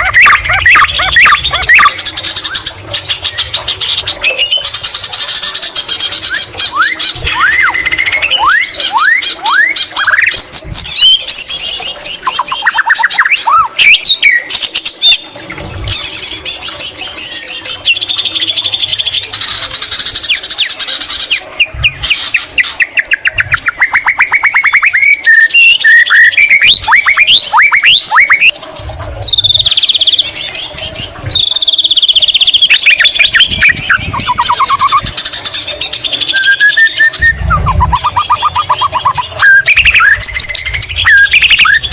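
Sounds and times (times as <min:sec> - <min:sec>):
bird singing trills and whistles: 0:00.0 - 0:41.9.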